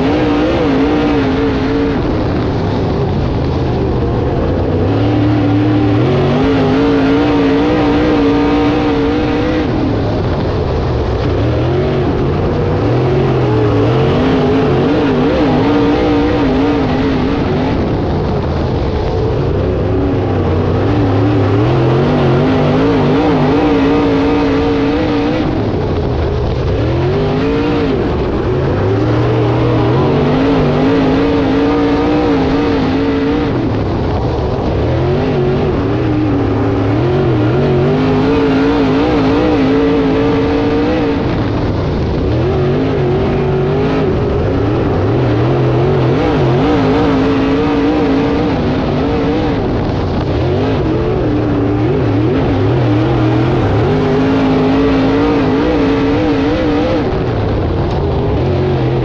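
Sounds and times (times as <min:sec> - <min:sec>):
race car engine rising and falling: 0:00.0 - 0:59.0.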